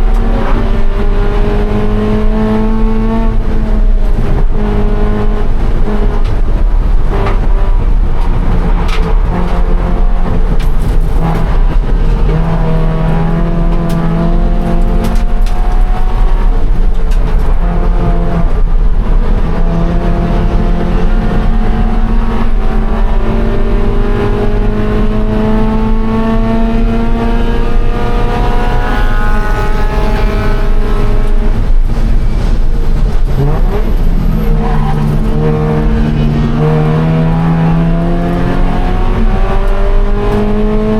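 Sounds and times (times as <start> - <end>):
car engine under load: 0.0 - 40.9.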